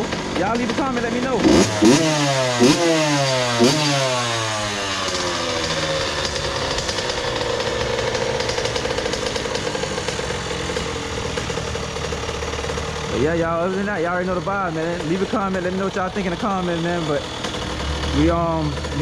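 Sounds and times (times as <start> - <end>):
motorcycle engine idling: 0.0 - 19.0
motorcycle engine revving: 0.0 - 19.0.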